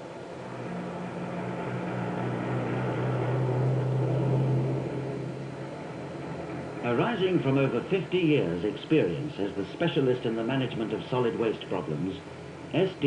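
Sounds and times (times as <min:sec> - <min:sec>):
truck engine passing: 0:00.0 - 0:13.0.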